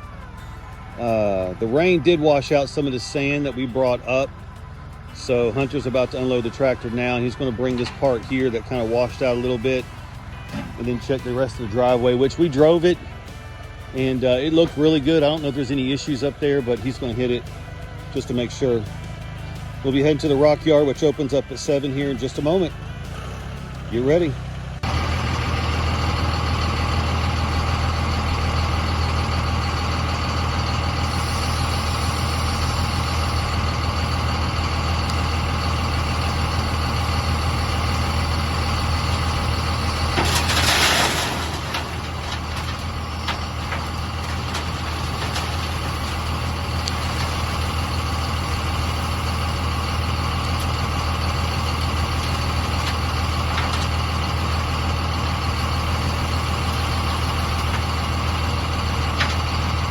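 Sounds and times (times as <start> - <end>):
heavy vehicle engine humming: 0.0 - 59.9.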